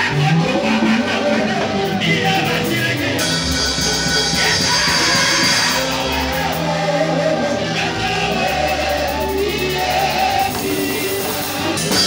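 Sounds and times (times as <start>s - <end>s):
gospel singing over bass: 0.0s - 12.0s.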